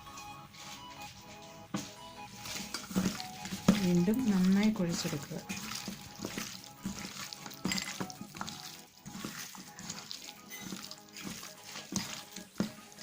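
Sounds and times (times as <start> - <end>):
soft background music: 0.0 - 13.0
hands squelching raw chicken: 1.8 - 13.0.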